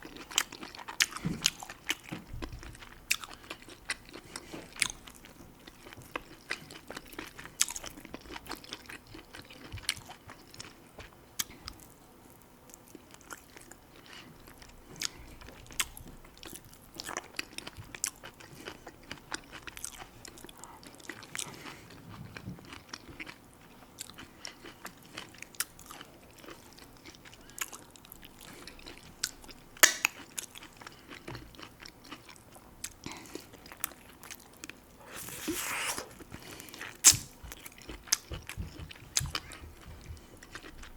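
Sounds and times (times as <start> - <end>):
chewing and crunching: 0.0 - 40.9.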